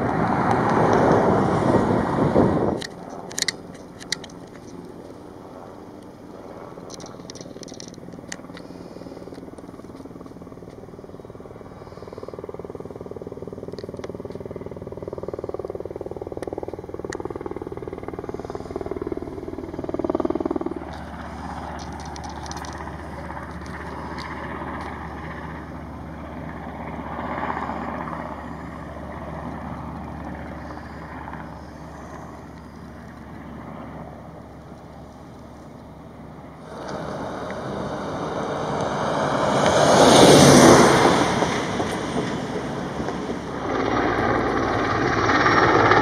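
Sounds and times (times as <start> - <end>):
helicopter rotor and engine: 0.0 - 46.0.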